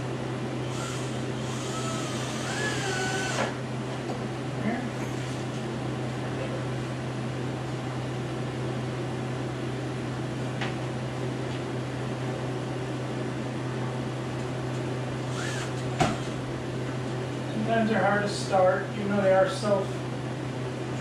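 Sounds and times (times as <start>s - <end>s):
fan motor humming: 0.0s - 21.0s.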